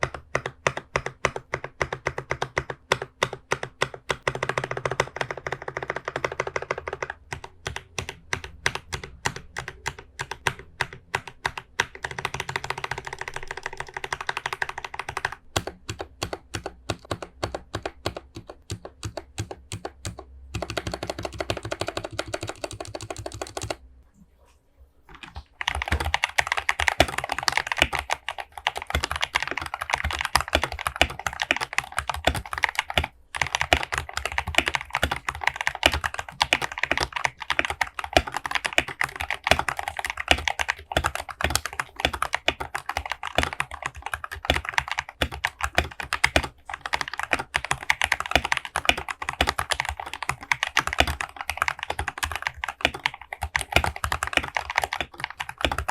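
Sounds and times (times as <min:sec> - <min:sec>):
mechanical keyboard typing: 0:00.0 - 0:23.8, 0:25.1 - 0:55.9.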